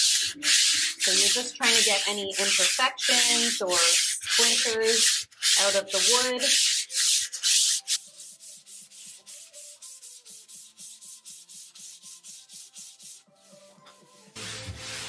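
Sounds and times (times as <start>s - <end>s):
sandpaper rubbing on wood: 0.0s - 15.0s.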